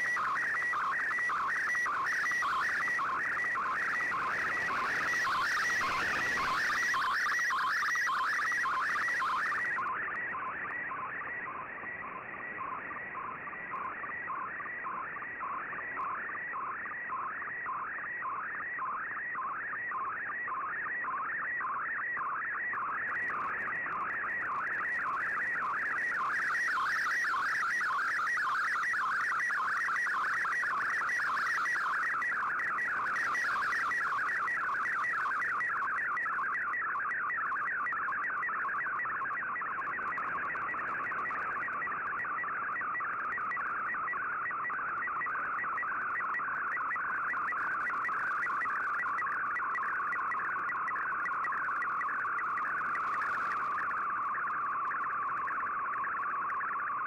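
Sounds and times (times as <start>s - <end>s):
warbling chirping radio tone: 0.0s - 57.0s.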